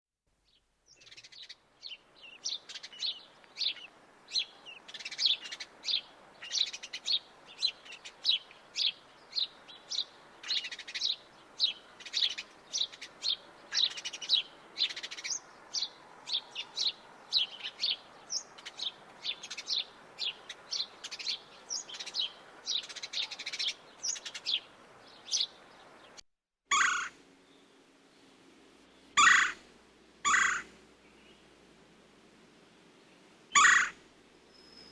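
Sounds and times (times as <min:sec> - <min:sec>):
small birds chirping: 0:00.4 - 0:31.7, 0:32.7 - 0:34.9.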